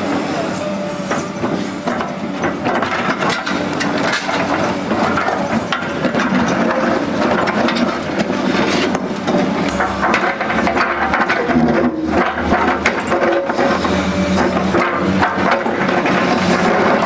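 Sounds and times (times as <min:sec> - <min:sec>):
excavator engine running: 0:00.0 - 0:17.0
bucket scraping and cracking concrete: 0:02.4 - 0:17.0.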